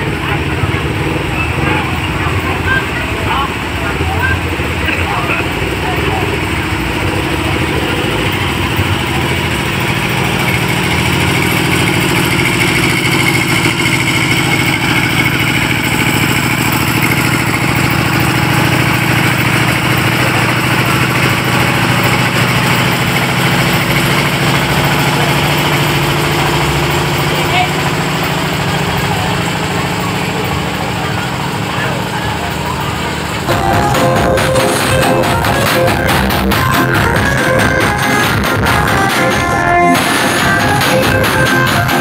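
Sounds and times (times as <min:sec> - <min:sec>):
large engine idling: 0:00.0 - 0:42.0.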